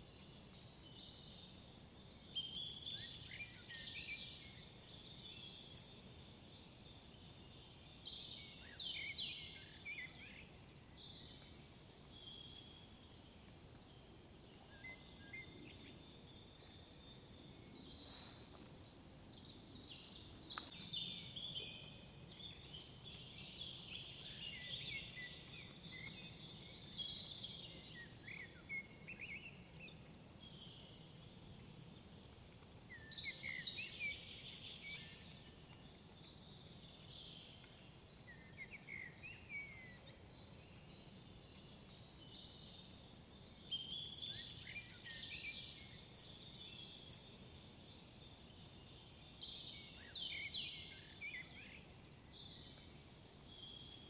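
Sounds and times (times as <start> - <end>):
songbirds singing: 0.0 - 54.0
faint low forest hum: 0.2 - 54.0.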